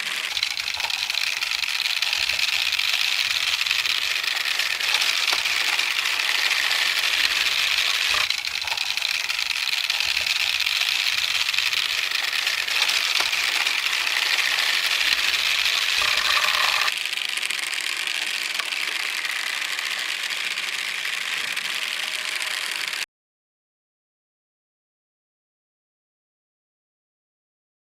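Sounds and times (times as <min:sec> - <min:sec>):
marbles rolling on wooden tracks: 0:00.0 - 0:23.1.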